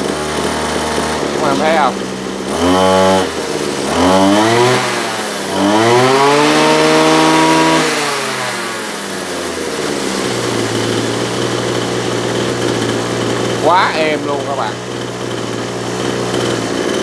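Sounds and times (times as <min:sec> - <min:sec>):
brush cutter engine revving: 0:00.0 - 0:17.0.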